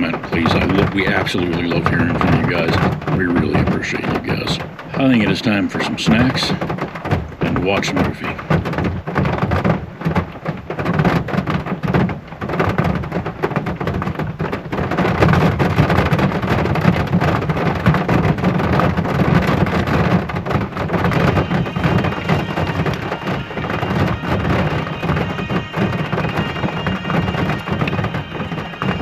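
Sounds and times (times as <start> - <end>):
heavy rain on vehicle roof: 0.0 - 29.0.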